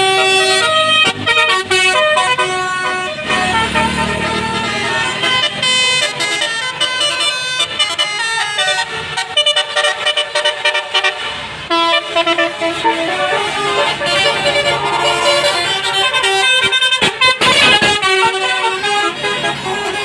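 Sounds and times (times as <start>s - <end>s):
multi-tone bus horn melody: 0.0s - 20.0s.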